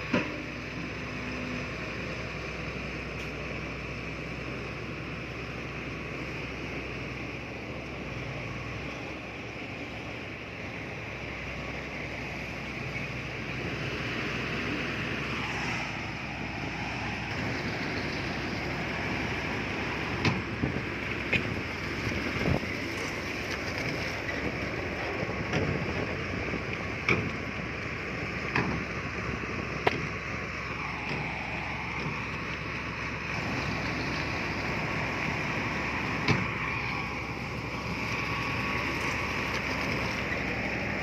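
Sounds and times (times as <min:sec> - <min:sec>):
heavy earthmoving machinery running: 0:00.0 - 0:41.0.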